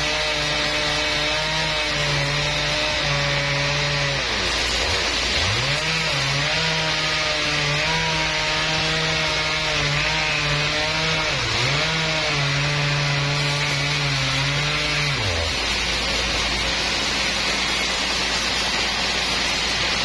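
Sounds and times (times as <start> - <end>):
saw cutting through timber: 0.0 - 20.0.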